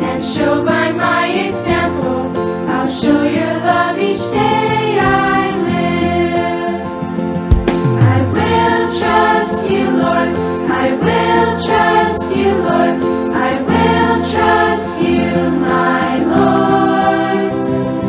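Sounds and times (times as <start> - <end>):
children's choir singing: 0.0 - 7.0, 8.0 - 18.0
instrumental backing music: 0.0 - 18.0.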